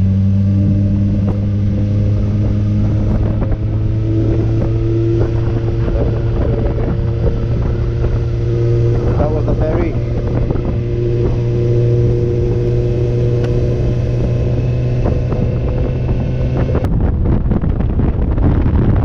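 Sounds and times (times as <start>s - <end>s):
motorcycle engine droning: 0.0s - 19.0s
wind buffeting microphone: 0.0s - 19.0s.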